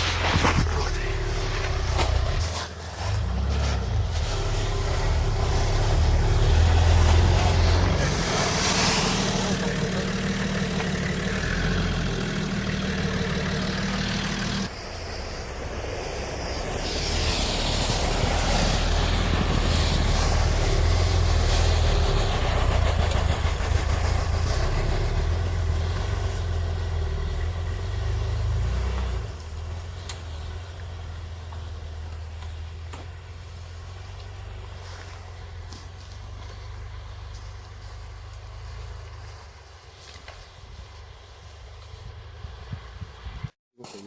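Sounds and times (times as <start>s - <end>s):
vehicle engine running: 0.0s - 43.5s.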